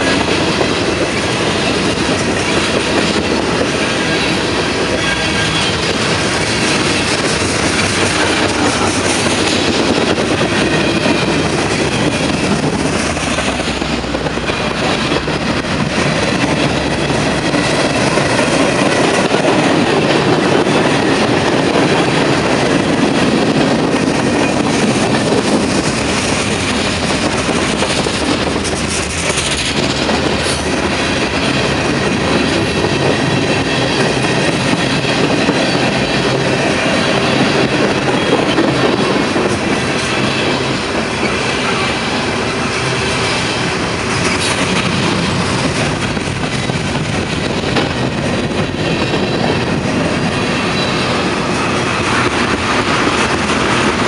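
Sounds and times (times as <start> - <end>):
train wheels rumbling and clacking: 0.0 - 54.0.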